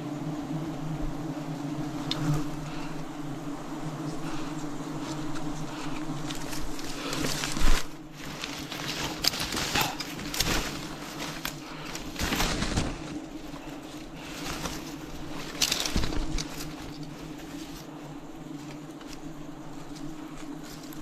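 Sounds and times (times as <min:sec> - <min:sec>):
bees buzzing: 0:00.0 - 0:21.0
rustling handling noises: 0:04.0 - 0:21.0.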